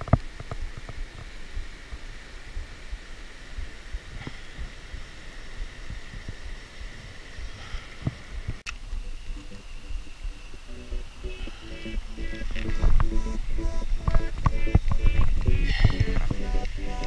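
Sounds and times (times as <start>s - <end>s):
faint high hum: 1.0s - 17.0s.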